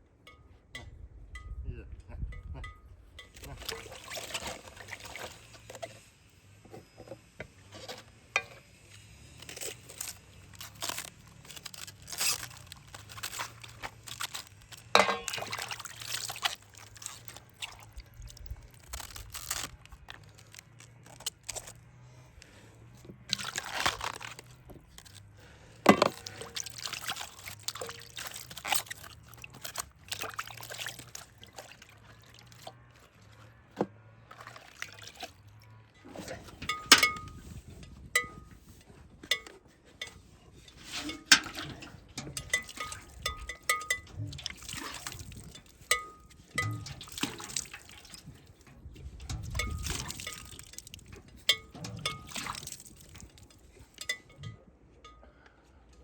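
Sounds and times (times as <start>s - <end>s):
liquid pouring and sloshing: 3.2s - 6.1s, 7.6s - 54.6s.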